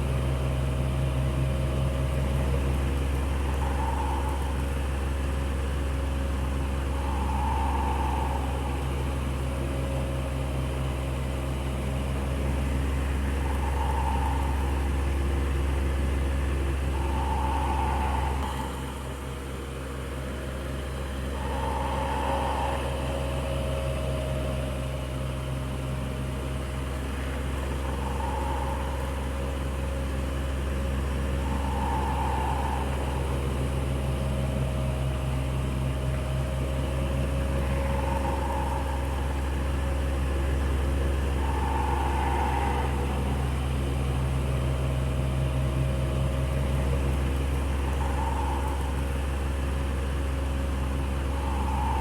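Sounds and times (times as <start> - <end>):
electric fan running: 0.0 - 52.0.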